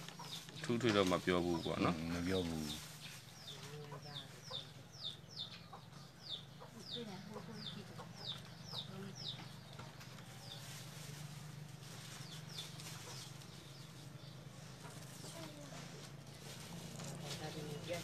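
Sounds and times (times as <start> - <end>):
chick peeping: 0.0 - 16.6.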